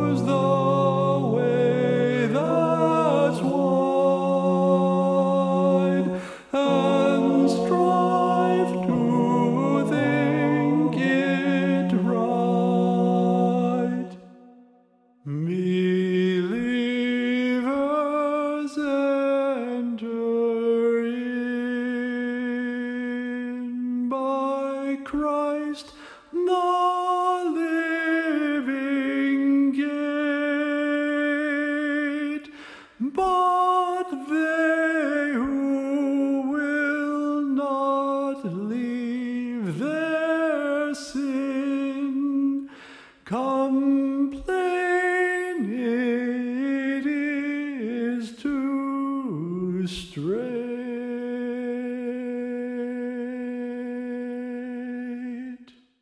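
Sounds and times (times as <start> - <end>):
person singing a psalm tune: 0.0 - 14.4, 15.2 - 55.7.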